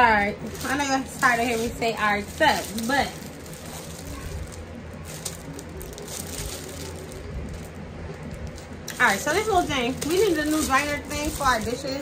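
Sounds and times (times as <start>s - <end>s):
low room hum: 0.0s - 12.0s
plastic wrapping crinkling: 0.0s - 12.0s.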